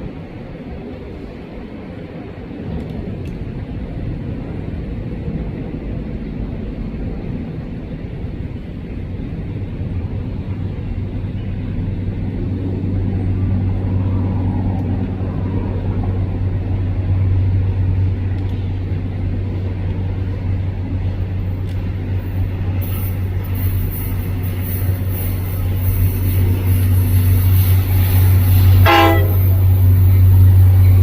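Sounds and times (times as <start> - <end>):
train engine hum: 0.0 - 31.0.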